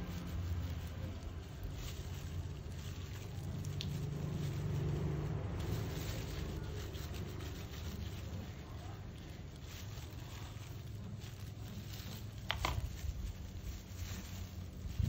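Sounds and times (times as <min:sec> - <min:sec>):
brush rubbing through hair: 0:00.0 - 0:15.0.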